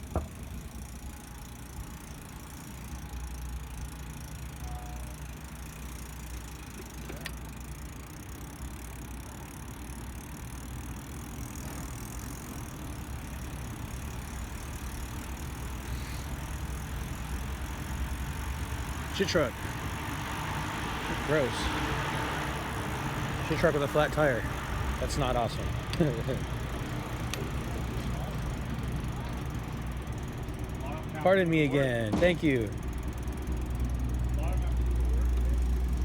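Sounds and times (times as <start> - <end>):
bicycle rolling rumble: 0.0 - 36.0.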